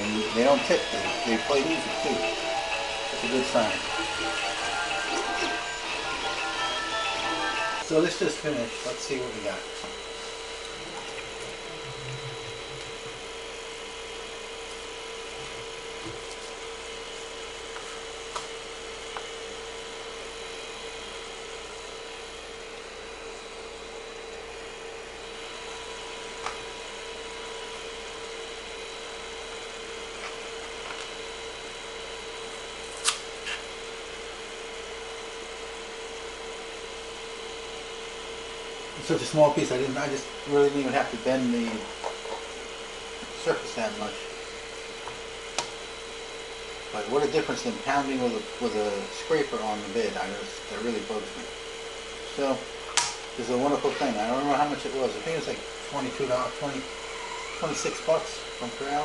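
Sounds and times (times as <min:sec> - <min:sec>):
cooling fans humming: 0:00.0 - 0:59.0.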